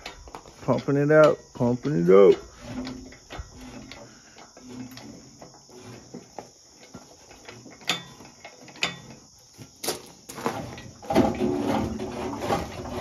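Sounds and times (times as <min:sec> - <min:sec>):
hydraulic hoist creaks and clicks: 0:00.0 - 0:13.0.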